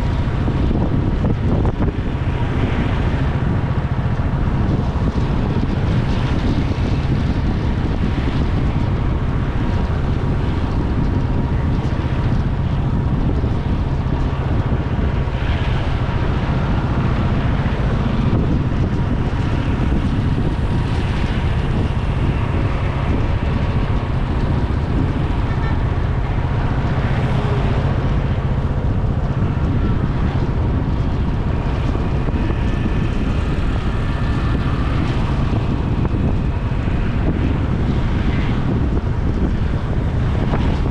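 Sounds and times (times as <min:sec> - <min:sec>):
vehicle and road noise: 0:00.0 - 0:40.9
wind rushing over microphone: 0:00.0 - 0:40.9.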